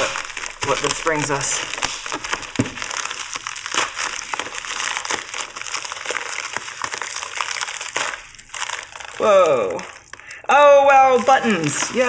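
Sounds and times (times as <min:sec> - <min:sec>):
blade slitting packaging: 0:00.0 - 0:10.2
padded mailer crinkling: 0:00.0 - 0:10.3.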